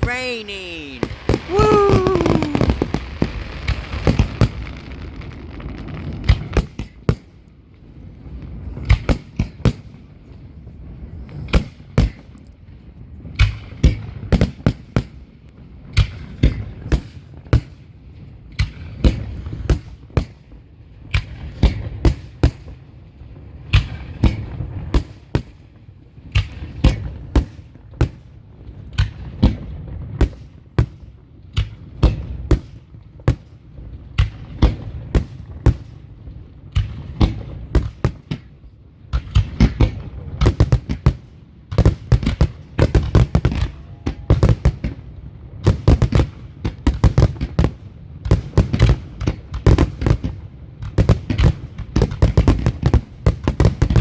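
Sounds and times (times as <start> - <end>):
fireworks bangs: 0.0 - 10.1, 18.5 - 22.8, 23.6 - 33.6, 34.2 - 54.0.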